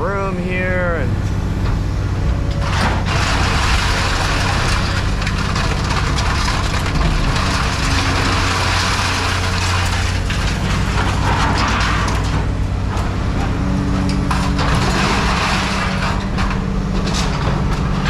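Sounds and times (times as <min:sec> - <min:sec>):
baler engine droning: 0:00.0 - 0:18.0
metal crunching under press: 0:01.6 - 0:18.0.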